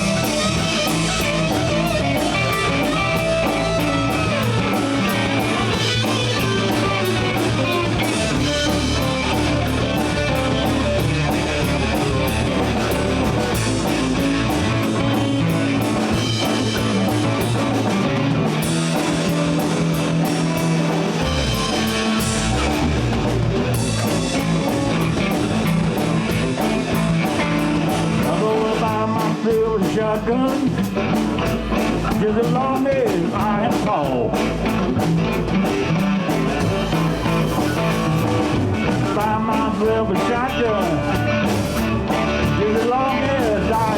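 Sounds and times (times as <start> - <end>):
electric guitar solo: 0.0 - 28.3, 34.4 - 43.9
bass guitar: 0.0 - 43.9
drum kit beat: 0.0 - 43.9.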